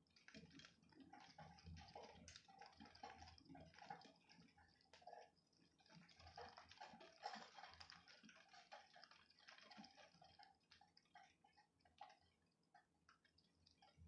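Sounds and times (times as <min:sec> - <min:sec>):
raindrops dripping: 0:00.0 - 0:14.0.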